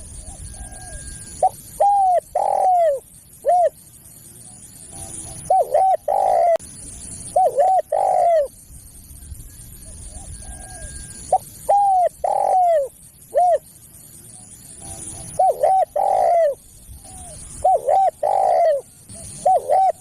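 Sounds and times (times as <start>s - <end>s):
dove cooing: 0.0s - 3.8s, 4.4s - 6.6s, 7.2s - 8.6s, 9.8s - 13.7s, 14.3s - 20.0s.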